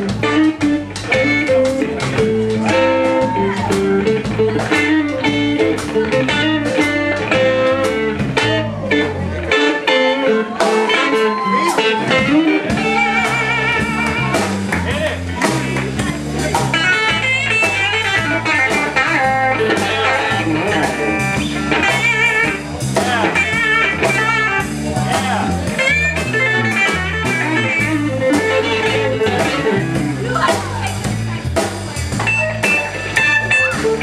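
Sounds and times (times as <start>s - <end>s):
drum kit: 0.0s - 34.0s
electric bass: 0.0s - 34.0s
electric guitar lead with bent notes: 0.0s - 34.0s.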